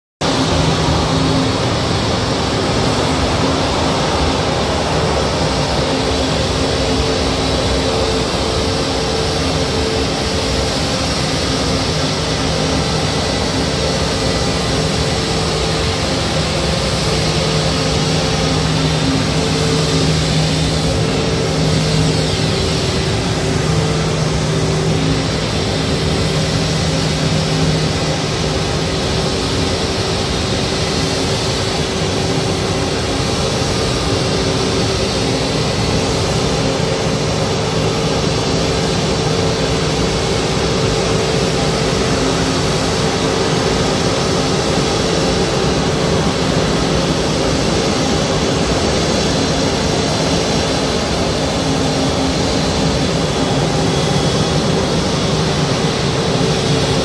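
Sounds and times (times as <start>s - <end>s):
jet engines idling: 0.2s - 57.0s.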